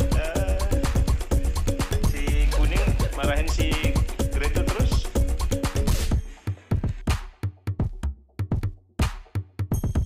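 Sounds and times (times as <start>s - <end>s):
dance music: 0.0s - 10.0s.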